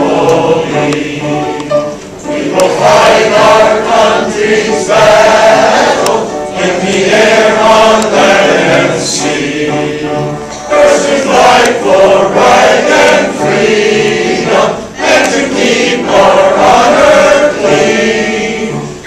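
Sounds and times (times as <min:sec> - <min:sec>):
mixed choir singing: 0:00.0 - 0:19.0.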